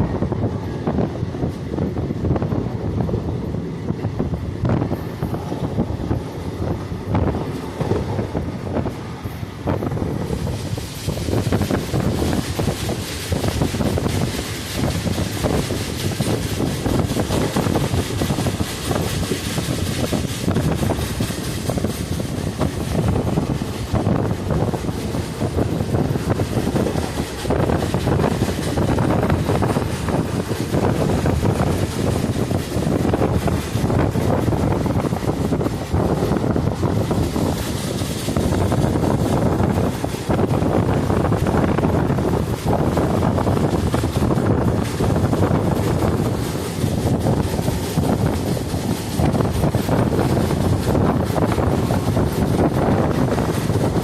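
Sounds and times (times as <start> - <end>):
train wheels rumbling on rails: 0.0 - 54.0
wind buffeting microphone: 0.0 - 54.0.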